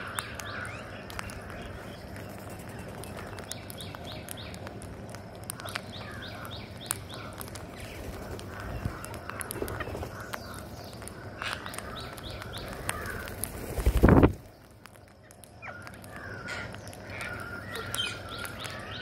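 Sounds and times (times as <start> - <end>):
parakeets chirping and squawking: 0.0 - 14.1, 15.4 - 19.0
beaks pecking clicks: 0.0 - 19.0.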